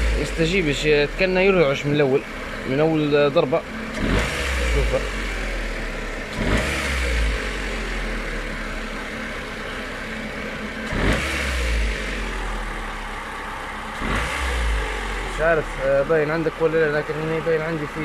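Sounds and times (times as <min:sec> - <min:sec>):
car engine idling: 0:00.0 - 0:18.0
engine throttle blips: 0:00.0 - 0:18.0.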